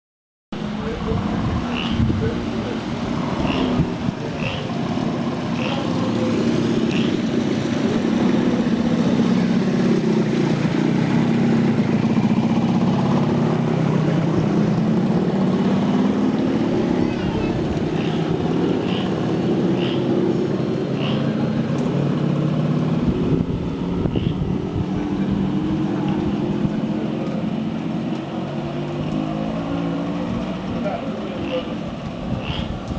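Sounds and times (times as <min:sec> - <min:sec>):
heavy rain: 0:00.6 - 0:32.9.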